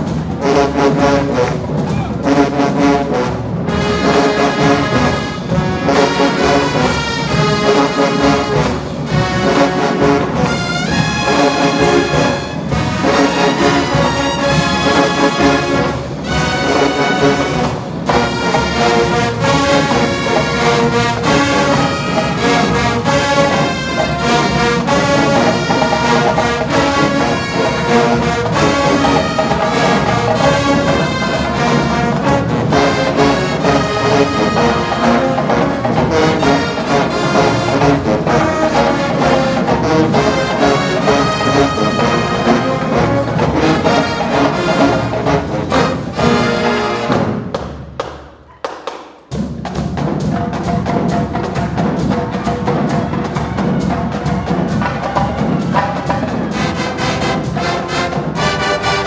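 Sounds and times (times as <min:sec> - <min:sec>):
brass section playing: 0:00.0 - 0:47.7, 0:50.1 - 0:59.0
marching drumline: 0:00.0 - 0:59.0.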